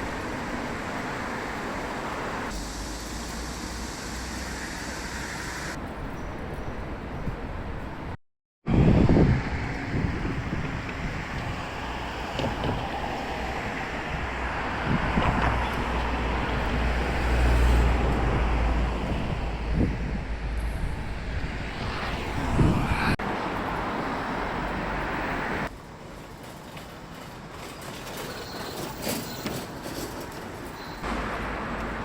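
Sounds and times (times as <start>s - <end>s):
vehicles passing with low rumble: 0.0s - 27.8s, 30.2s - 32.0s.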